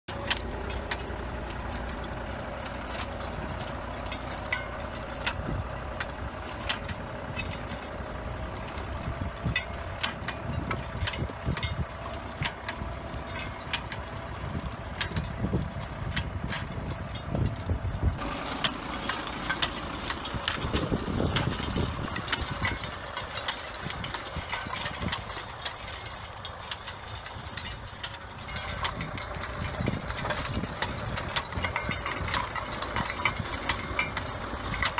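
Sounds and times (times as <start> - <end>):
sharp clicks and knocks: 0.1 - 14.2, 14.9 - 34.9
tractor engine drone: 0.1 - 34.9.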